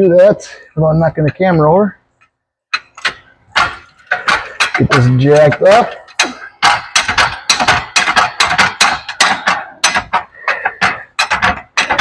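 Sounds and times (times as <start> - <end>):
jack pumping metallic clacks: 0.1 - 12.0.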